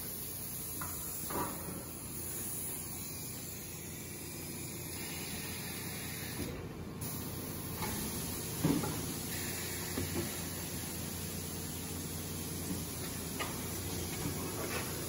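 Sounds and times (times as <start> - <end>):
hissing concrete press machinery: 0.0 - 15.0.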